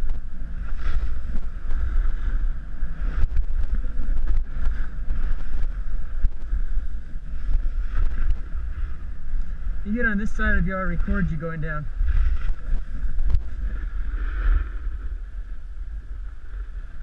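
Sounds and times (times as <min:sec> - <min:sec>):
skis sliding on packed snow: 0:00.0 - 0:15.4
wind buffeting microphone: 0:00.0 - 0:17.0.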